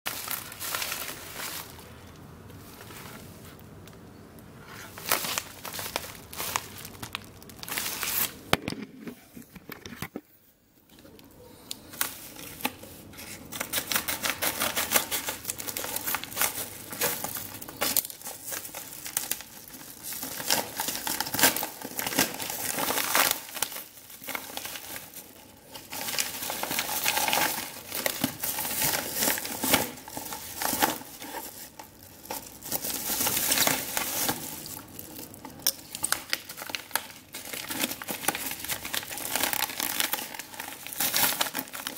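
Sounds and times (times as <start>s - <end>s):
envelope tearing and crinkling: 0.1s - 1.9s, 4.8s - 8.5s, 12.0s - 41.9s.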